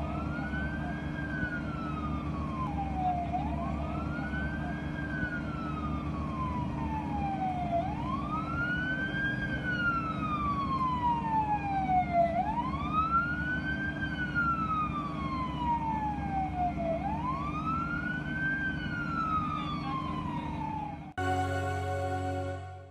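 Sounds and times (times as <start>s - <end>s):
emergency siren wailing: 0.0s - 22.9s.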